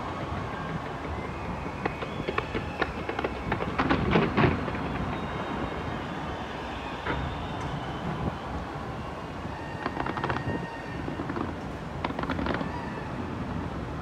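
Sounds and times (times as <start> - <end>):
fireworks cracking and banging: 0.0 - 14.0.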